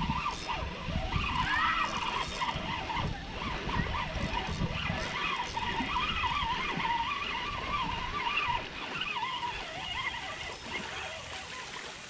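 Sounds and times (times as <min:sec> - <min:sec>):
fishing reel gears whining: 0:00.0 - 0:12.0.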